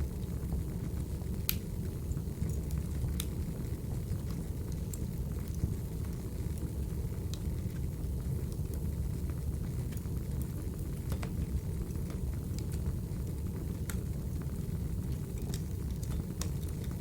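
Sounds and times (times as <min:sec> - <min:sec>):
fire crackling and popping: 0:00.1 - 0:17.0
fire rumbling: 0:00.1 - 0:17.0.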